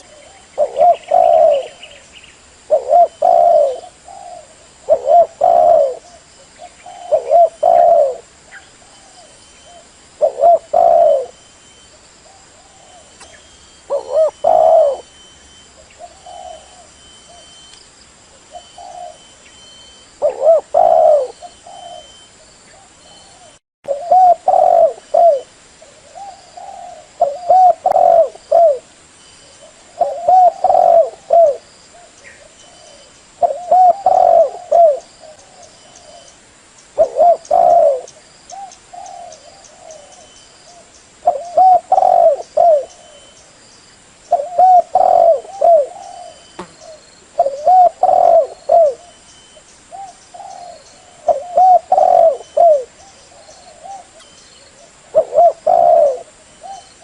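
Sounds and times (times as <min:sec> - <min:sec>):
dove cooing: 0:00.0 - 0:02.0, 0:02.7 - 0:17.6, 0:18.3 - 0:28.9, 0:29.5 - 0:36.4, 0:37.0 - 0:43.4, 0:44.3 - 0:57.0.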